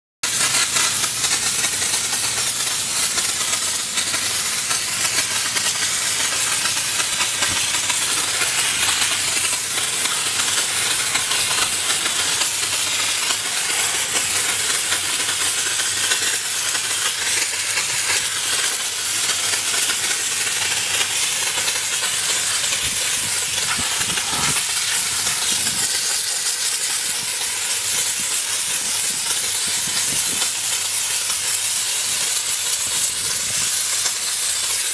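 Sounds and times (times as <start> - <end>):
steam jet hissing: 0.2 - 34.9.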